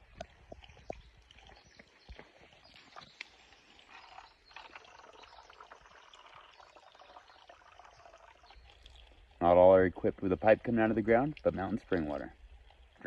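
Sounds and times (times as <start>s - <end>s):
water splashing from pipe: 0.0s - 13.0s.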